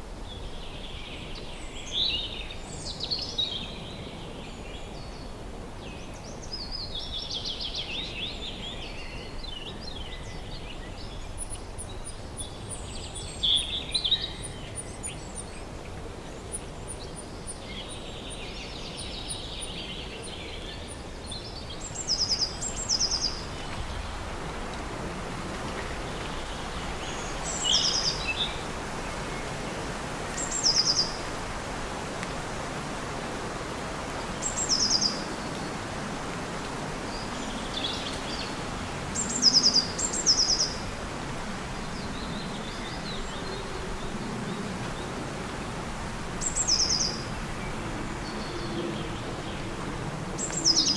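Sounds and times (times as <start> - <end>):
steady outdoor hiss: 0.0 - 50.9
songbirds singing: 0.2 - 50.9.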